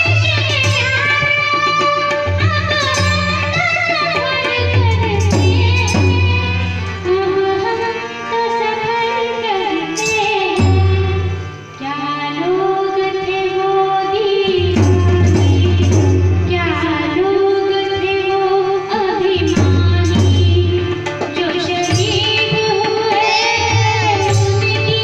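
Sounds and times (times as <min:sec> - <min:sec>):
girl singing: 0:00.0 - 0:25.0
instrumental accompaniment: 0:00.0 - 0:25.0.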